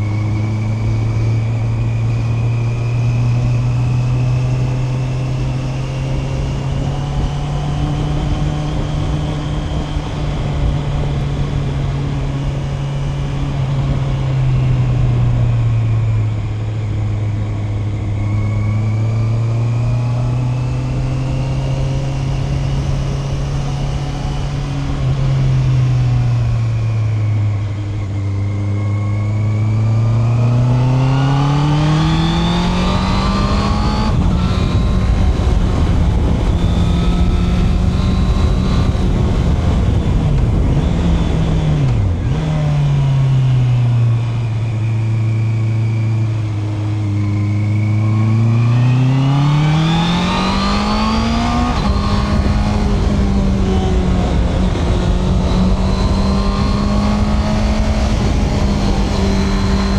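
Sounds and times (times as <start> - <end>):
motorcycle engine running: 0.0 - 59.9
road noise: 0.0 - 59.9
wind noise: 0.0 - 59.9.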